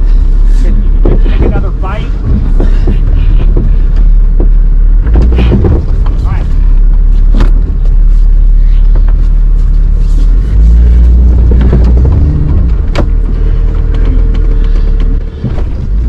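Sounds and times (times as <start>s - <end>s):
engine rumbling under load: 0.0s - 16.0s.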